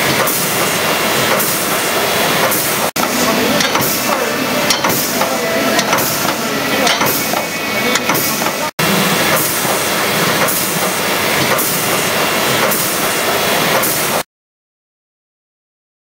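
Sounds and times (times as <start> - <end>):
food-forming machine hissing: 0.0 - 14.2.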